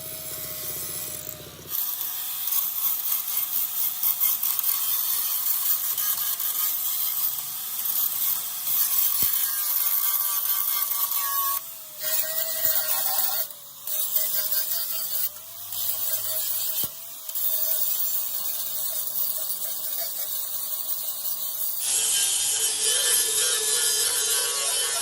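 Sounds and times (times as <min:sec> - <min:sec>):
hissing power tool: 0:00.0 - 0:25.0
power tool whining: 0:00.0 - 0:25.0.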